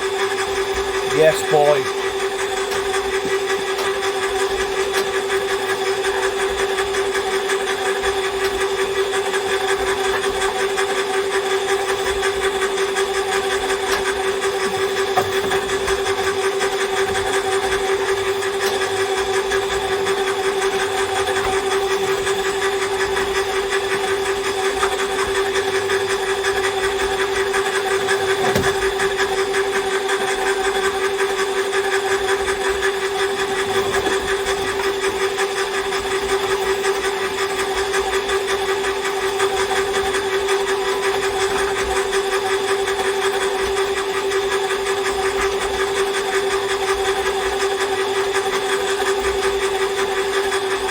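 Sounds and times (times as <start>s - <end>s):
cable stripping machine motor whine: 0.0s - 50.9s.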